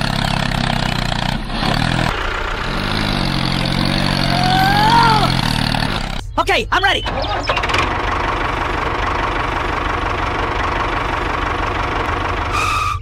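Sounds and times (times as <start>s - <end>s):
tractor engine rattling and knocking: 0.0s - 4.3s, 5.3s - 13.0s.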